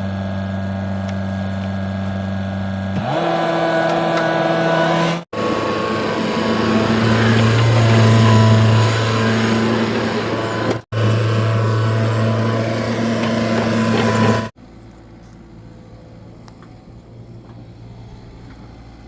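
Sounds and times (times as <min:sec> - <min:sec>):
excavator diesel engine droning: 0:00.0 - 0:19.0.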